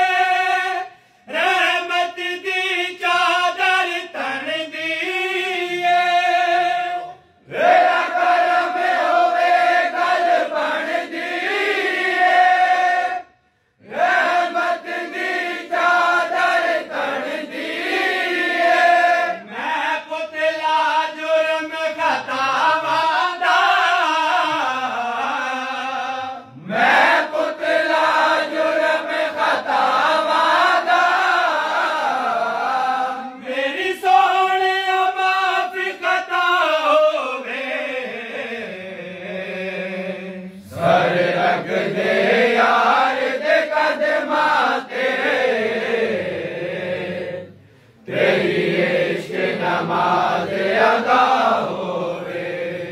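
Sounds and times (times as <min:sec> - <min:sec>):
men chanting devotional verse: 0:00.0 - 0:52.9.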